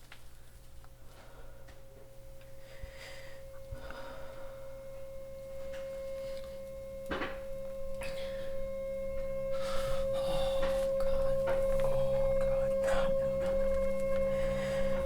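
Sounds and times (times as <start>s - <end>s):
pure steady tone: 0.0s - 15.0s.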